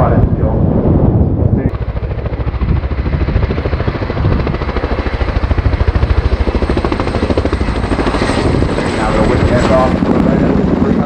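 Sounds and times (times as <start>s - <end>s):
helicopter rotor blade slap: 1.7s - 11.0s.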